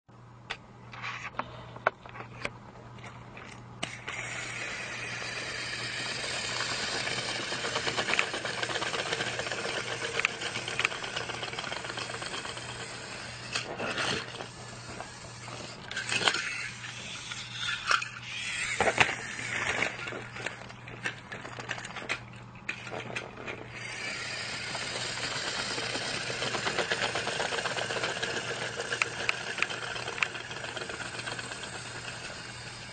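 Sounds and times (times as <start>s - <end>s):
toy train motor whirring: 3.0s - 32.9s.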